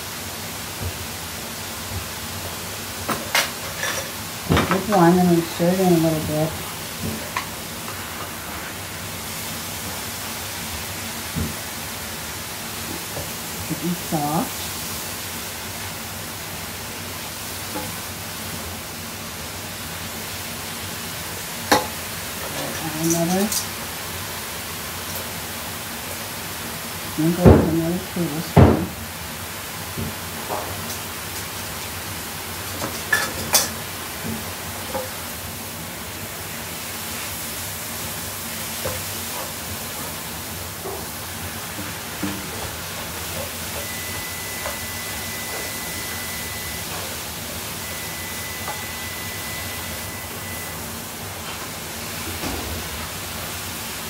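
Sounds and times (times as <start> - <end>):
zucchini sizzling in butter: 0.0 - 54.0.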